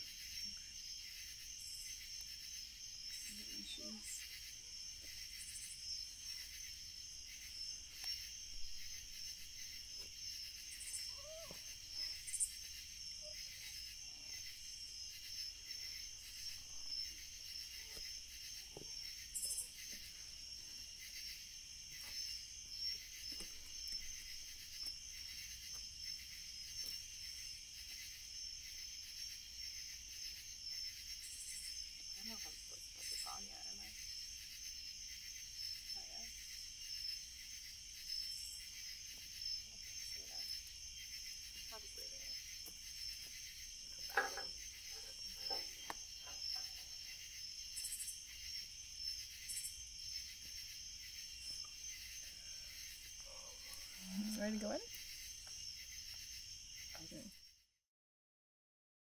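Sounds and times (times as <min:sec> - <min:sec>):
crickets chirping shrilly: 0:00.0 - 0:57.6.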